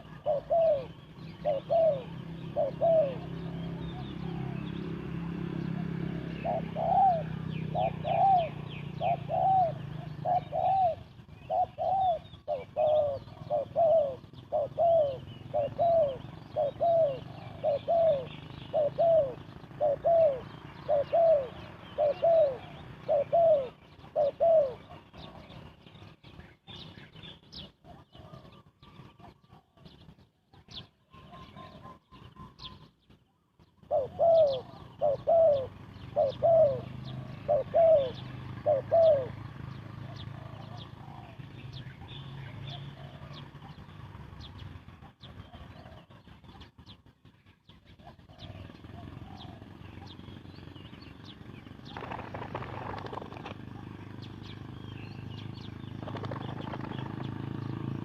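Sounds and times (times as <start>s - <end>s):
dove cooing: 0.0s - 47.0s, 47.7s - 58.0s
faint high bird chirps: 5.6s - 58.0s.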